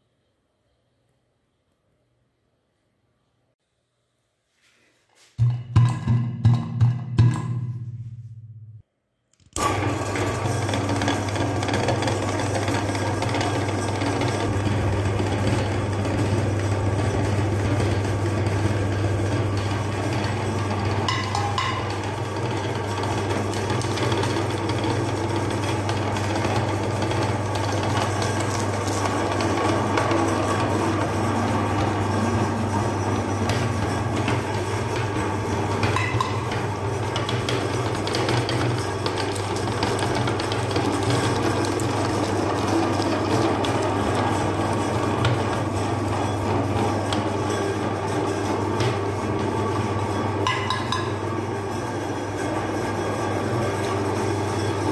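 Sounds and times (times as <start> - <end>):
meat grinder motor humming: 9.6 - 54.9.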